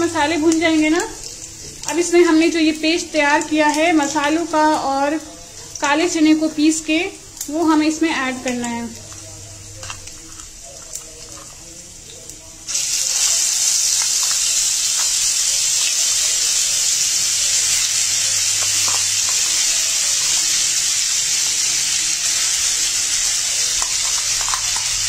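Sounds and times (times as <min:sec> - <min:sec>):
paste sizzling in hot fat: 0:00.0 - 0:25.0.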